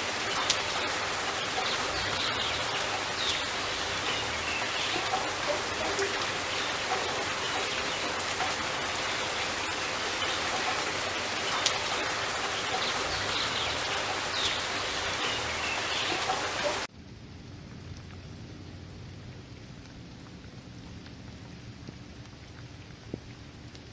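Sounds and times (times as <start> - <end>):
heavy rain: 0.0 - 23.9
sharp water drip: 0.0 - 23.9.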